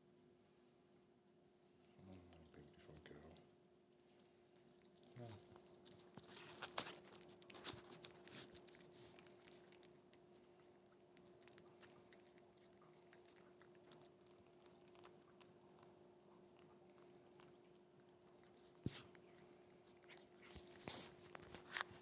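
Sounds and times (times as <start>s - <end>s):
faint steady hum: 0.0s - 22.0s
cat chewing and crunching: 1.7s - 22.0s.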